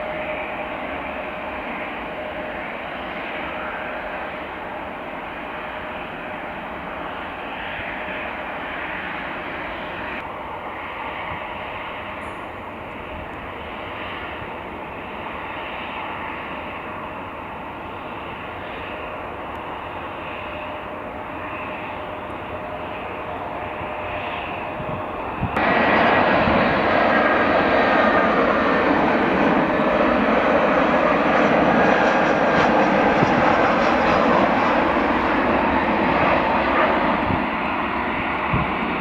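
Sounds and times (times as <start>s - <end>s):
airliner engines roaring: 0.0s - 39.0s.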